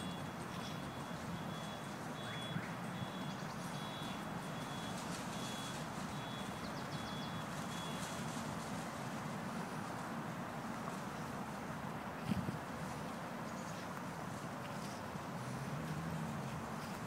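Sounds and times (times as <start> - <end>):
distant city traffic: 0.0 - 17.0
wind: 0.0 - 17.0.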